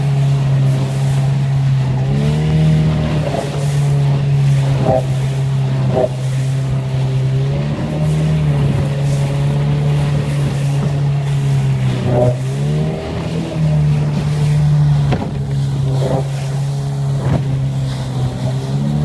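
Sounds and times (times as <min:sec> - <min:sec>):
hull hitting water: 0:00.0 - 0:19.0
motorboat engine running hard: 0:00.0 - 0:19.0.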